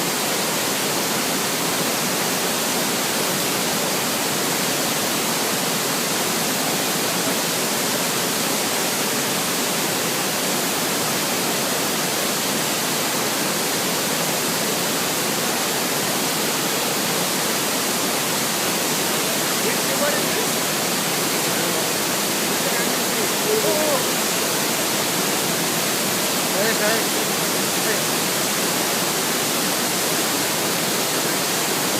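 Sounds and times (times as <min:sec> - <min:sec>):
waterfall roaring: 0:00.0 - 0:31.9.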